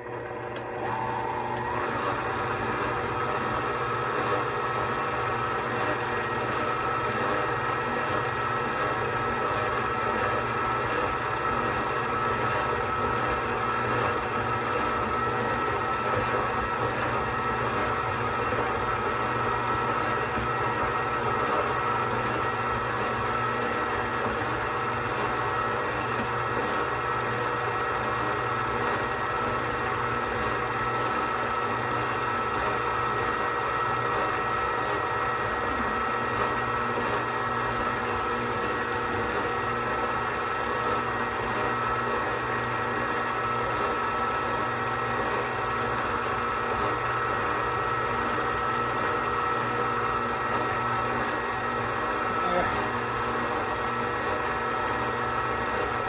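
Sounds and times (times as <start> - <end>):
stand mixer motor humming: 0.0 - 56.0.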